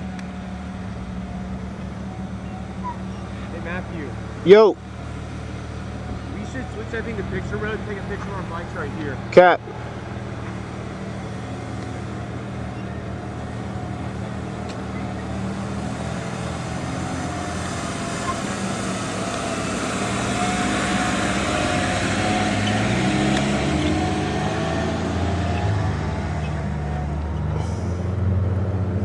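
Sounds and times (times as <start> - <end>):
off-road vehicle engines running: 0.0 - 29.0.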